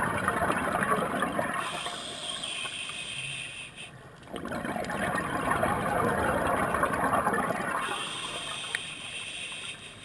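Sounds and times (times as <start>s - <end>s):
underwater exhaust bubbles: 0.0s - 3.0s, 4.2s - 9.7s.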